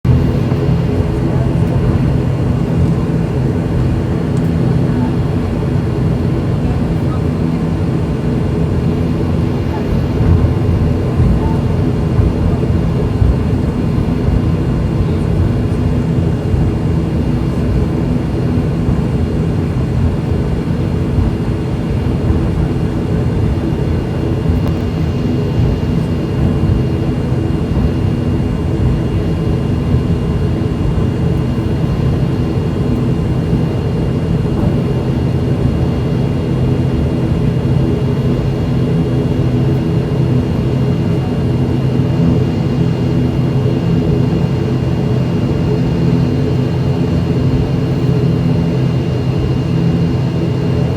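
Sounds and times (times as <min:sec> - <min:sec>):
turboprop engines droning: 0:00.0 - 0:50.9.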